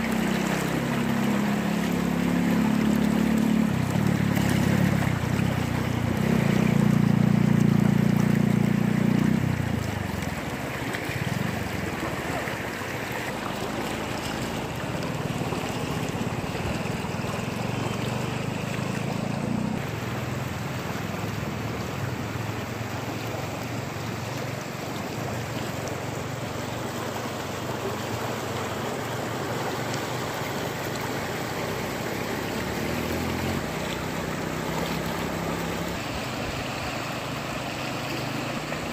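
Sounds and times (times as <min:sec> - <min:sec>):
low motor-like hum: 0:00.0 - 0:38.9
river rushing: 0:00.0 - 0:38.9.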